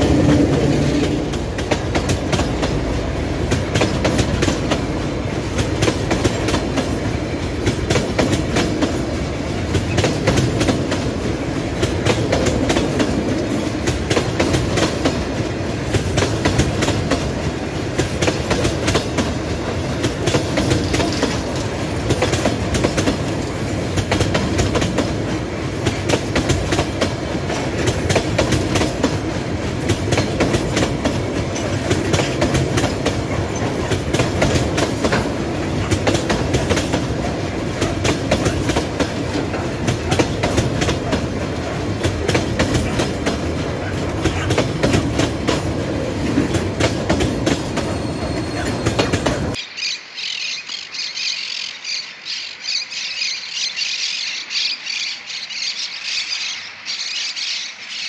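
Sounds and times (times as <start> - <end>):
train wheels rumbling on rail: 0.0 - 49.6
wheels clicking over rail joints: 0.0 - 49.6.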